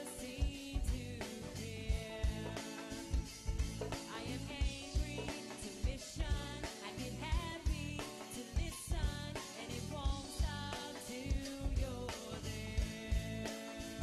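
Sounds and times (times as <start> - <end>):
drums with steady beat: 0.0 - 14.0
go-go music: 0.0 - 14.0
person singing: 0.0 - 14.0.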